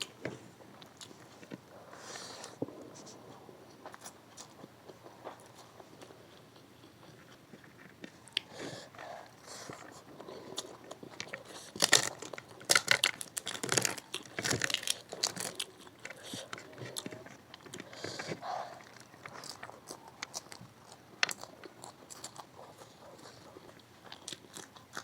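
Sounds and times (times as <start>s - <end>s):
chewing mouth sounds: 3.3s - 25.0s.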